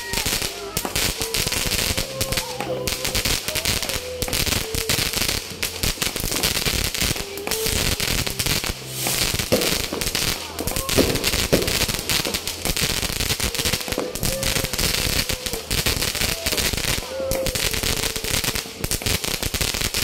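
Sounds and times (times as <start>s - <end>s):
fireworks popping and crackling: 0.0s - 20.0s.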